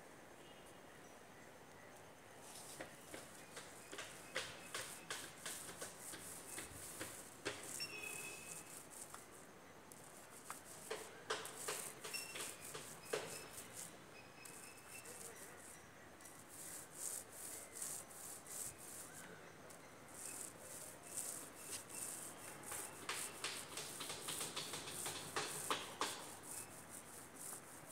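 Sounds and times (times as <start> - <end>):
paint roller rasping on plaster: 2.5 - 19.3, 20.1 - 27.9.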